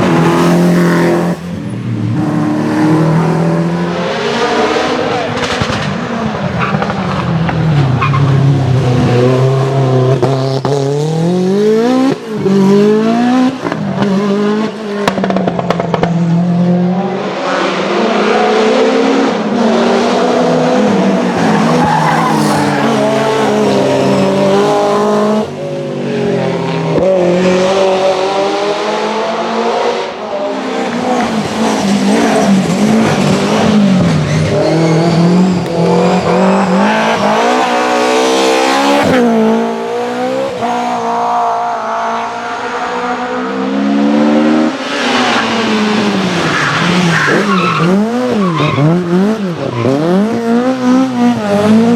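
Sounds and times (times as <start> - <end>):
rally car engine revving: 0.0 - 51.9.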